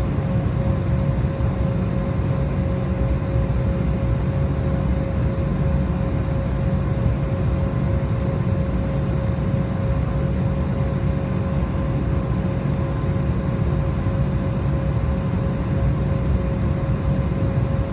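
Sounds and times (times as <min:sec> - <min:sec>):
airliner cabin engine rumble: 0:00.0 - 0:17.9.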